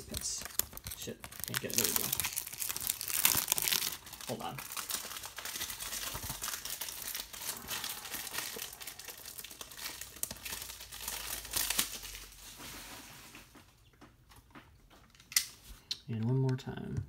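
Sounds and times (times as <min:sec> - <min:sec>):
shrink wrap crinkling: 0:00.0 - 0:13.7.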